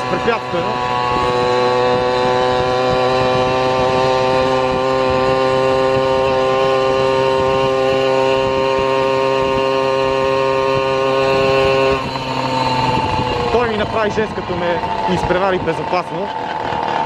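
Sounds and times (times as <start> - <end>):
vehicle engine cruising: 0.0 - 17.0.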